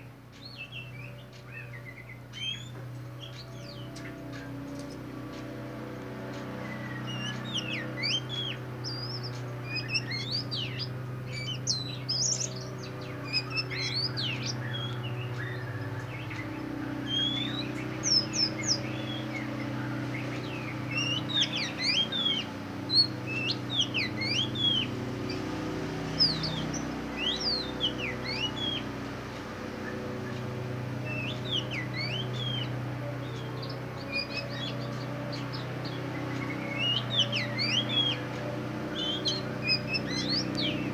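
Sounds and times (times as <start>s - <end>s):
bird singing whistled notes: 0.0s - 5.0s, 6.6s - 29.0s, 29.8s - 40.9s
steady low hum: 0.0s - 40.9s.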